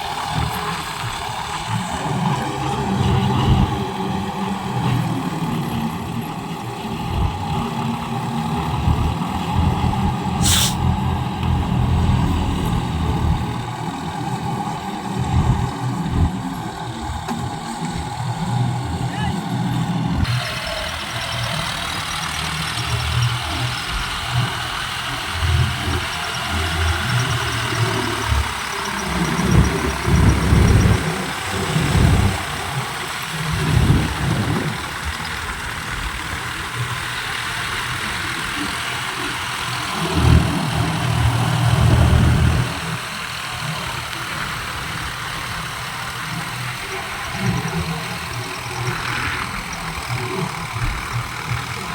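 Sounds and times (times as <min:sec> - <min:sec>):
tractor diesel engine revving: 0:00.0 - 0:51.9.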